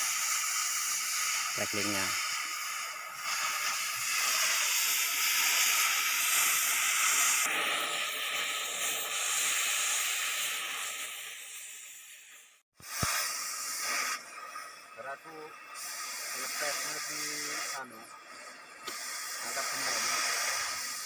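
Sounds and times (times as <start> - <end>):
cutting torch hissing: 0.0 - 21.0.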